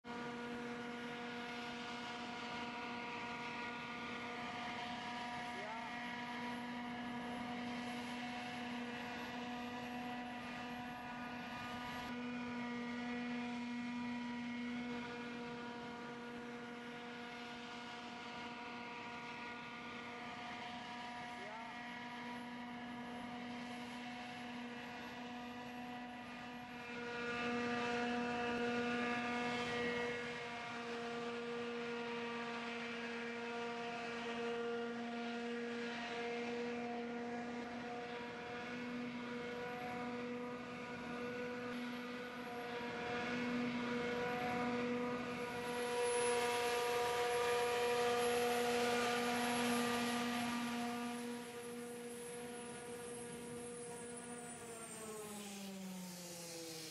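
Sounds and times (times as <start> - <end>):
drone fans humming: 0.1 - 56.9.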